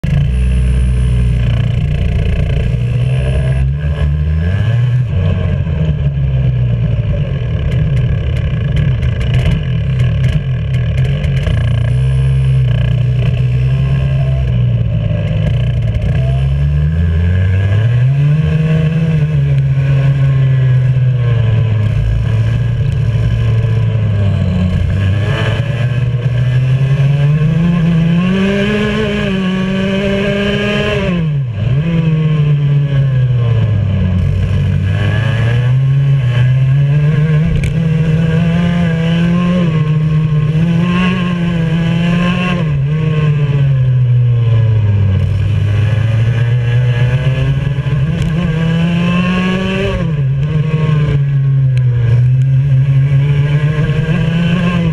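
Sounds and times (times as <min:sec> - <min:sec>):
kart engine revving: 0:00.0 - 0:54.9.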